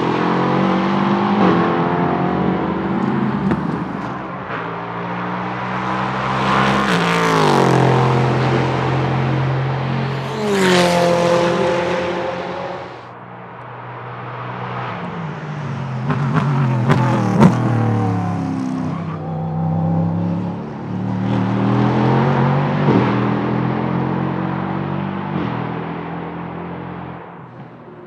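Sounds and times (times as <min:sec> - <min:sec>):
race car passing at speed: 0:00.0 - 0:28.0.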